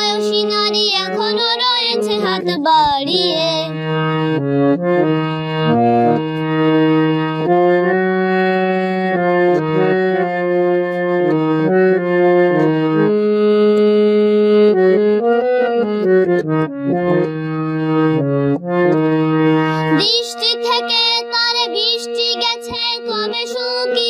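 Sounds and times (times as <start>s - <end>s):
harmonium melody over chords: 0.0s - 24.0s.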